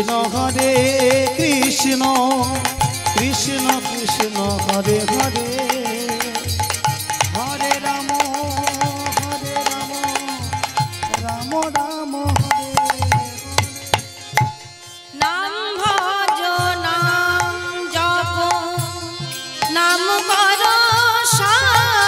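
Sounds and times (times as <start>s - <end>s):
hand-drum beats: 0.0s - 22.0s
held melody line: 0.0s - 22.0s.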